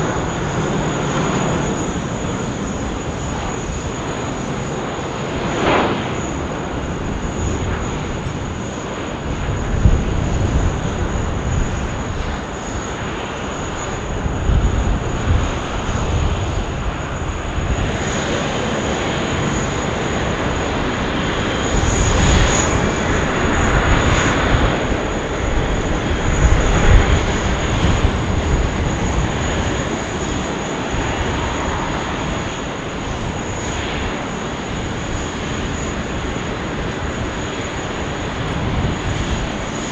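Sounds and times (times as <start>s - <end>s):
jet engine rush: 0.0s - 39.9s.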